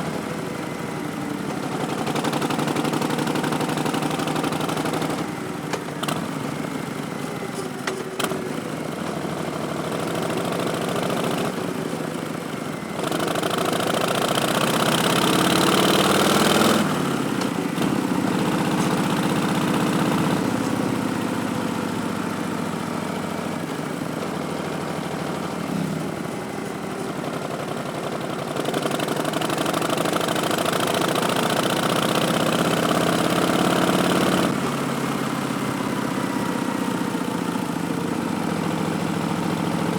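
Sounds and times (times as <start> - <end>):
motorcycle engine revving: 0.0 - 7.2, 7.9 - 39.9.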